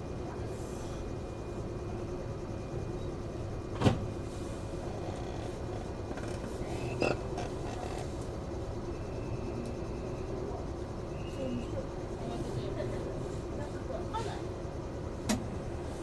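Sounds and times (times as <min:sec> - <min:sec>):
train car mechanical hum: 0:00.0 - 0:16.0.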